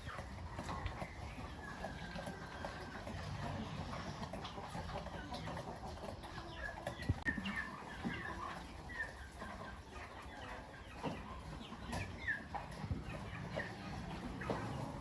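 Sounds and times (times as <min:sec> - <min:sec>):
poultry clucking and cheeping: 0:00.0 - 0:15.0.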